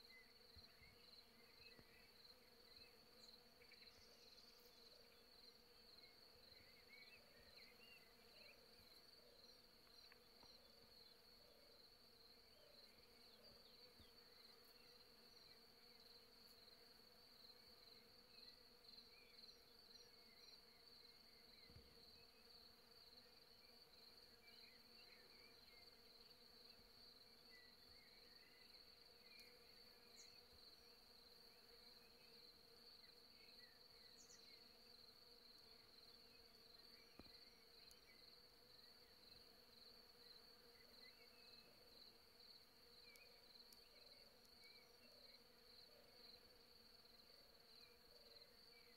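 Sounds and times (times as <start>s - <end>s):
faint chirps: 0.0s - 48.9s.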